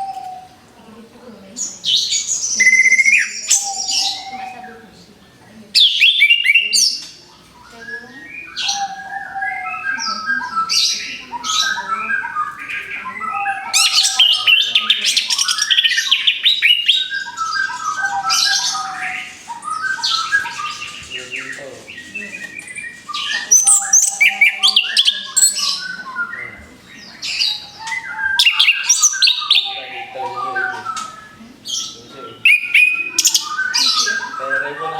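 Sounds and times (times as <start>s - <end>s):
thrush singing whistled song: 1.8s - 4.7s, 5.8s - 34.9s.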